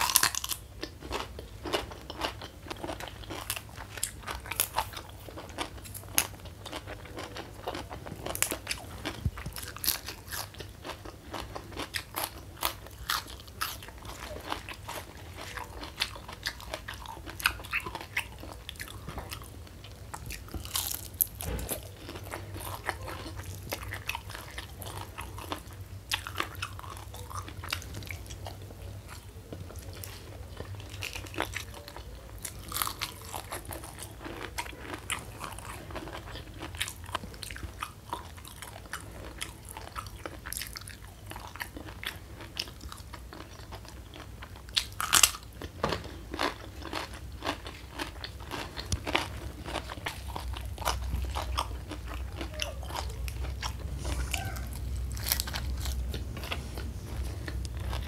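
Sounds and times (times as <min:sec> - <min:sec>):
crunching and chewing: 0:00.0 - 0:58.0.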